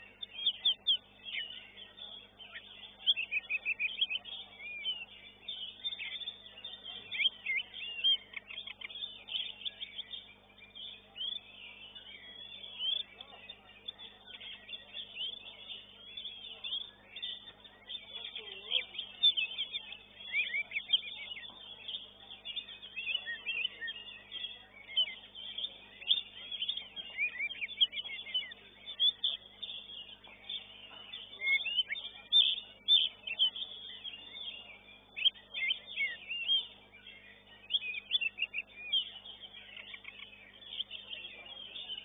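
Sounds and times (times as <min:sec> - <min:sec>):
songbirds chirping and trilling: 0:00.0 - 0:42.0.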